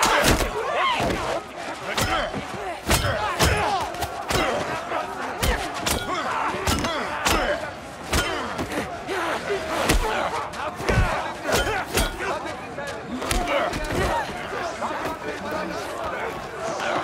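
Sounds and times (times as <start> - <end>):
crowd of men shouting: 0.0 - 17.0.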